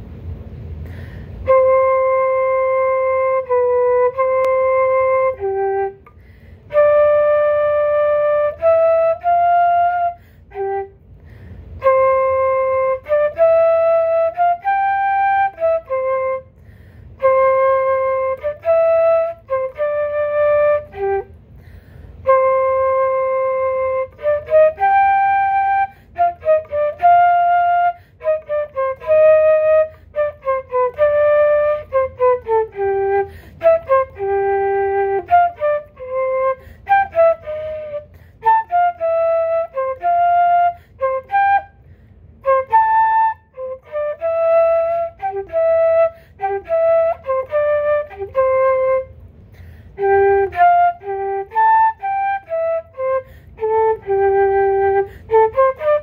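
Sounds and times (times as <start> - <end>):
solo flute melody: 0.0 - 56.0.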